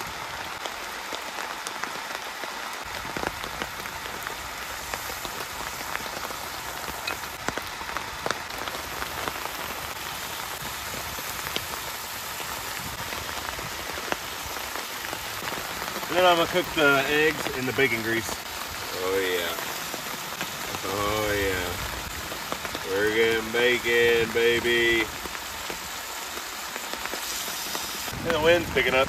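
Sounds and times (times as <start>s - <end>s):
rain falling on shelter: 0.0s - 29.0s
bacon sizzling in a pan: 2.8s - 29.0s.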